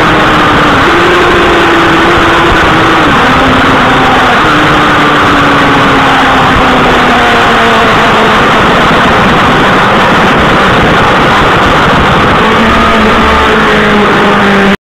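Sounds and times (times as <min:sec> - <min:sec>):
motorcycle engine running: 0:00.0 - 0:14.8
wind rush on microphone: 0:00.0 - 0:14.8.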